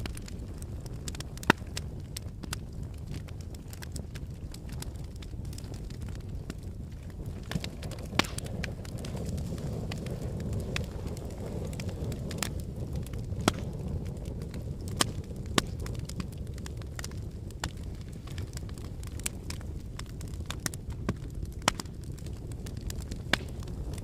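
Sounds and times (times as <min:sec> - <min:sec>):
burning wood crackling and popping: 0:00.0 - 0:24.0
fire flames rumbling: 0:00.0 - 0:24.0.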